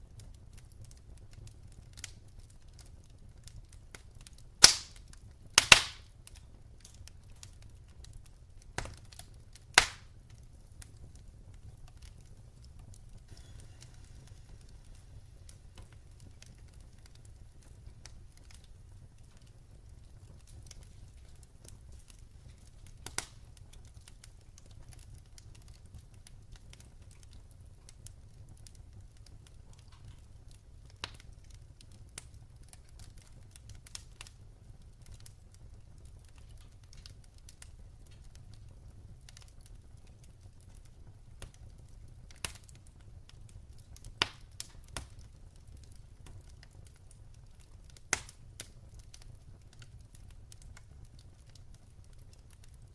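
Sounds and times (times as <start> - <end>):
fire low rumble: 0.0 - 52.9
firewood crackling and popping: 0.0 - 52.9.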